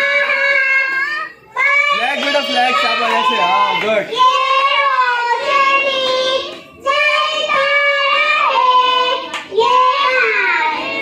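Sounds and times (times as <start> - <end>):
children singing in unison: 0.0 - 3.4, 4.0 - 11.0.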